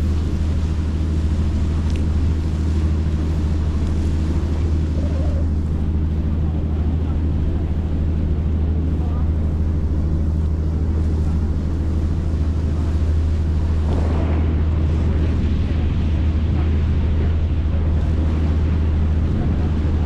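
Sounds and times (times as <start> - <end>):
boat engine droning: 0.0 - 20.0
water noise: 0.0 - 20.0
wind noise on microphone: 0.0 - 20.0.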